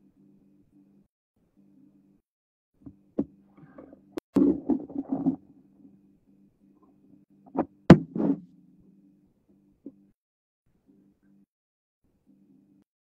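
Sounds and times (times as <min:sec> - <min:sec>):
steady low hum: 0:00.0 - 0:02.2, 0:02.8 - 0:11.5.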